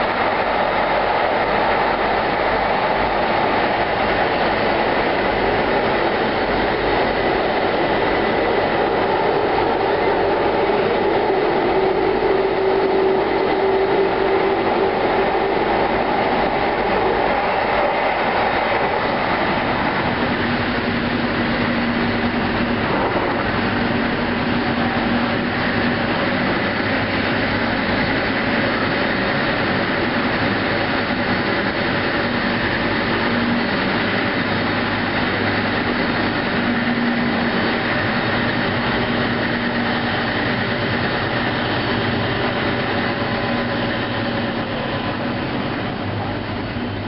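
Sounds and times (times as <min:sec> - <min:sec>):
steady hum: 0:00.0 - 0:47.0
train wheels rumbling on rails: 0:00.0 - 0:47.0.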